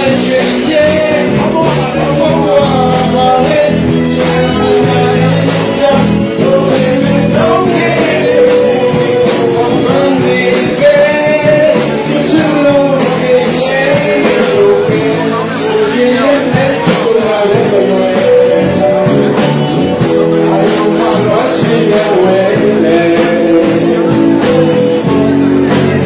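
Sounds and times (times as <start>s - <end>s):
person singing: 0.0s - 26.0s
rock band playing: 0.0s - 26.0s.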